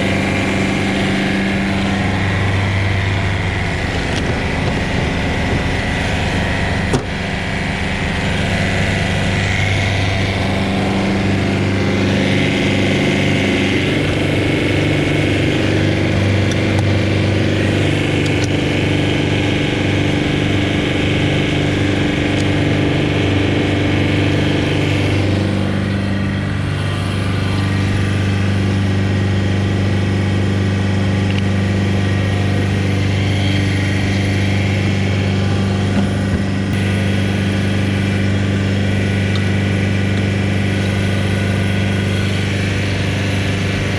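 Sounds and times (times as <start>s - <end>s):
large engine running: 0.0s - 43.9s.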